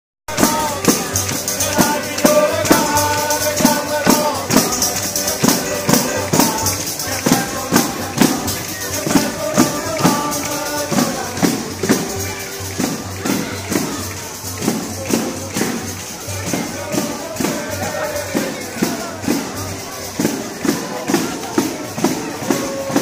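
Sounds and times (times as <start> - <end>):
accordion playing folk tune: 0.3 - 23.0
jingled frame drums beating: 0.3 - 23.0.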